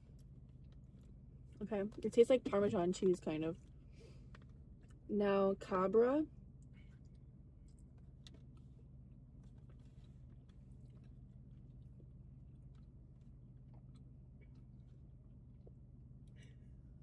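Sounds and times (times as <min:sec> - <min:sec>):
faint chewing: 0:00.0 - 0:02.1, 0:02.9 - 0:05.1, 0:06.5 - 0:17.0
steady low hum: 0:00.0 - 0:17.0.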